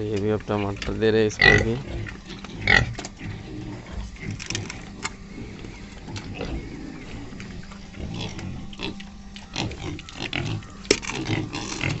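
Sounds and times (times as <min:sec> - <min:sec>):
low steady hum: 0:00.0 - 0:12.0
pigs chewing and smacking: 0:00.0 - 0:12.0
pig squealing: 0:00.7 - 0:12.0.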